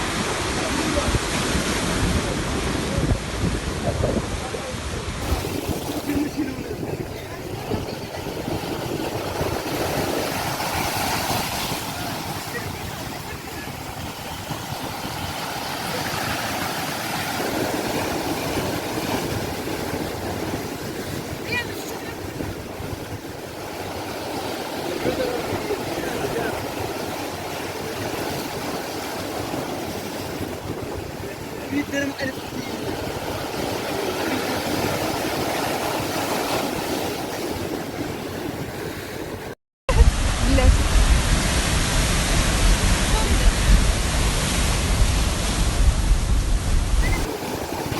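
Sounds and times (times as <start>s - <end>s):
sea waves washing onto shore: 0.0s - 47.9s.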